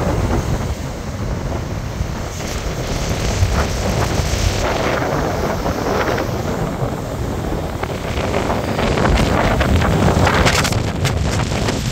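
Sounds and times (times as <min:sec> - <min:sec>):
surf breaking on beach: 0:00.0 - 0:11.9
wind buffeting microphone: 0:00.0 - 0:11.9.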